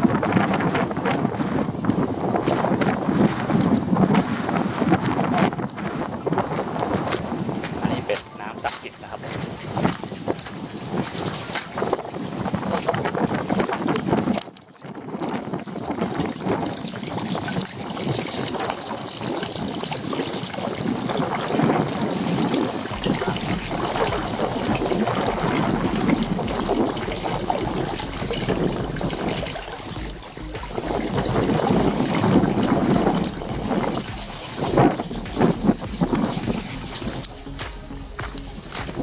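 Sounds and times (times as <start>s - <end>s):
water trickling and flowing: 0.0s - 39.0s
wind rumble on microphone: 0.0s - 39.0s.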